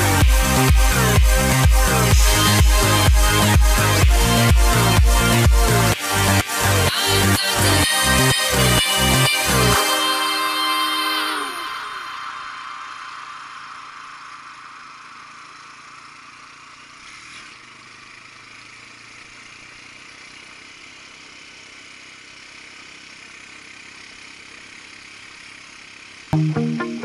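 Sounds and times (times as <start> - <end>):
quad bike engine running: 0.0 - 10.1, 14.2 - 26.4.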